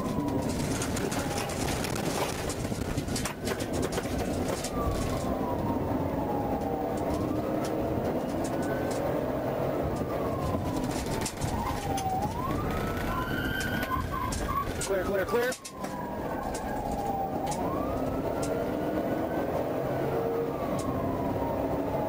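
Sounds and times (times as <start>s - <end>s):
police siren wailing: 0.0s - 22.0s
road and engine rumble: 0.0s - 22.0s.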